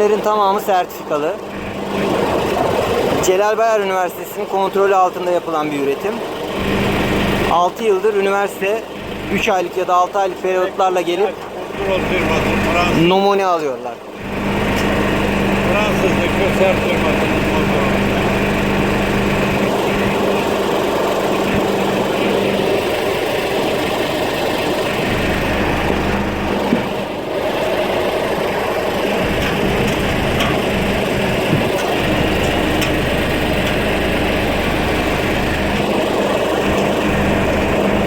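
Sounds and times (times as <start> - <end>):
motor running: 0.0 - 38.0.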